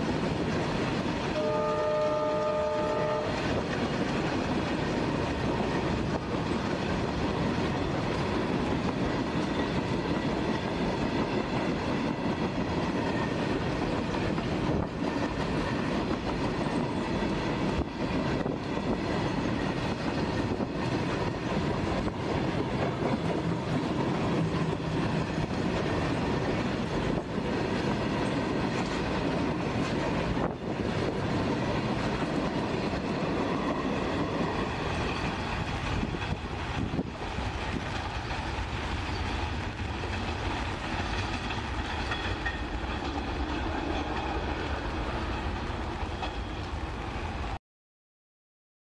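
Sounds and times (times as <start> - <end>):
freight train wheels clattering: 2.2 - 47.0.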